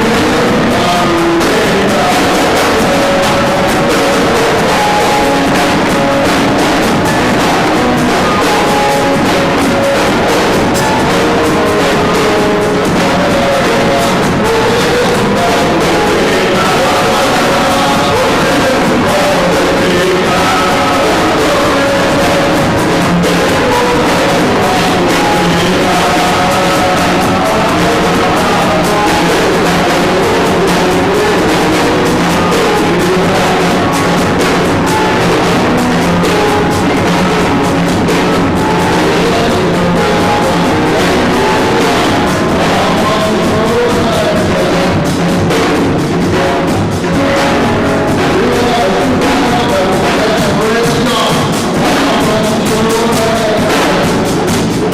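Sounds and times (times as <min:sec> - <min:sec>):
music with drums: 0:00.0 - 0:54.9
person singing: 0:00.0 - 0:54.9.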